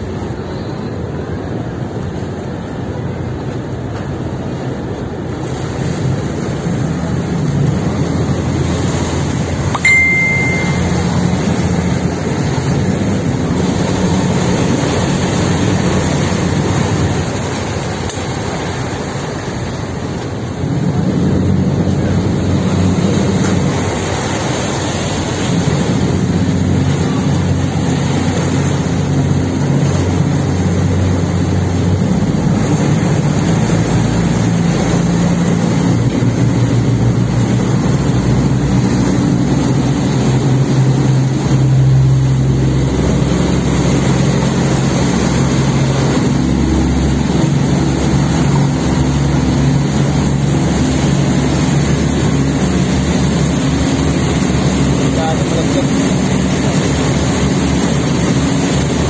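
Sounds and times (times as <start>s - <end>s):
propeller wash churning: 0.0s - 59.0s
ship diesel engines running: 0.0s - 59.0s.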